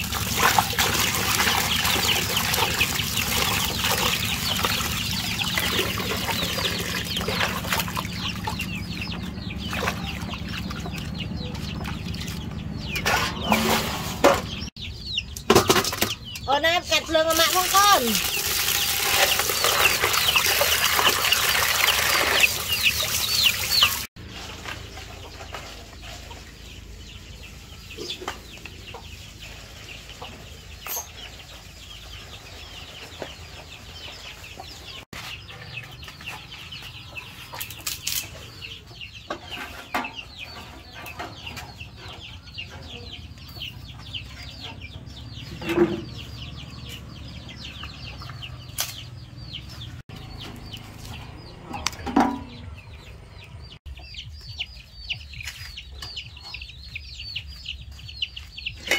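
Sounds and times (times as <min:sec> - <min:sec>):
chickens clucking and chirping: 0:00.0 - 0:58.9.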